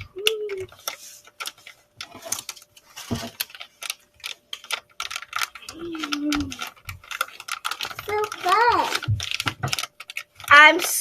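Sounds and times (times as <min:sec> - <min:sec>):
slime clicking and crackling: 0:00.0 - 0:11.0.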